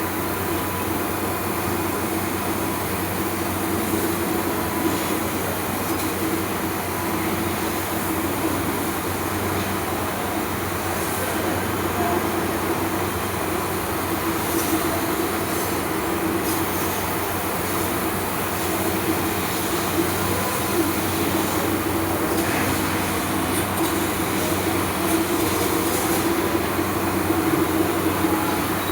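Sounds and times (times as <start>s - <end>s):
laser cutting machine humming: 0.0s - 28.9s.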